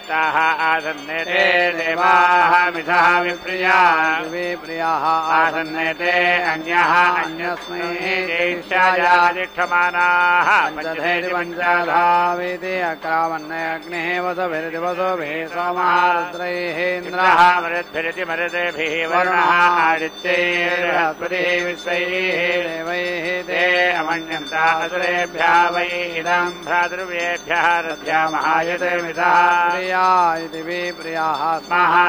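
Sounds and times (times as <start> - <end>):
men chanting mantras: 0.0 - 32.0.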